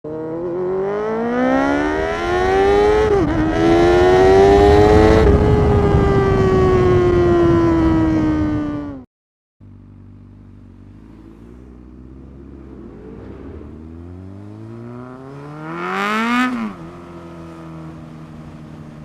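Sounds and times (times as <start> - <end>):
high-revving engine accelerating: 0.1 - 9.0, 10.2 - 19.0.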